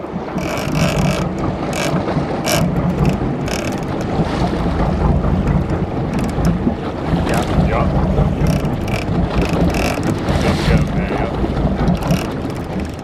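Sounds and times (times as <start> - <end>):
boat engine running: 0.0 - 13.0
wind noise on microphone: 0.0 - 13.0.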